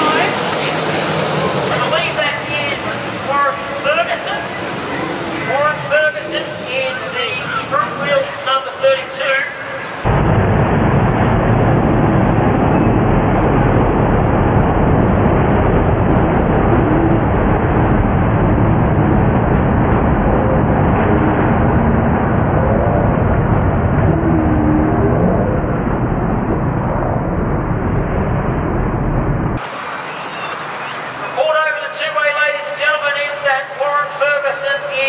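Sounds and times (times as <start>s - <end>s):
racing car engines: 0.0s - 27.4s, 29.5s - 35.0s.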